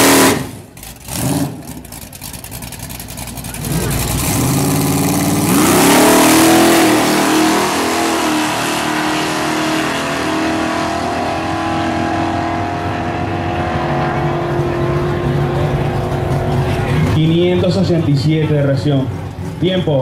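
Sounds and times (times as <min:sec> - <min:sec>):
drag racing car engine revving: 0:00.0 - 0:20.0.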